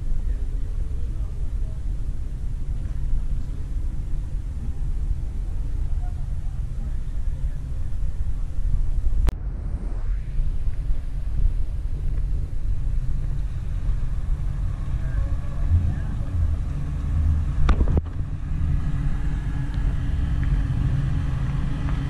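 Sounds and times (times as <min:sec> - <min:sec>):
car engine rolling up: 0:00.0 - 0:22.0
car engine rumbling: 0:00.0 - 0:22.0.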